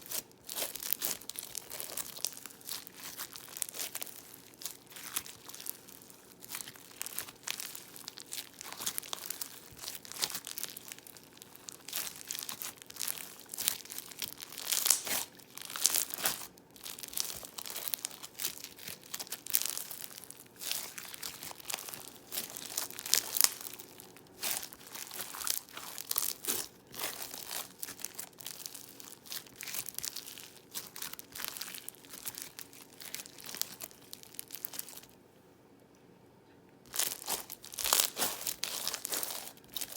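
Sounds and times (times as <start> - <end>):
slime crackling and popping: 0.0 - 35.1, 36.9 - 39.9.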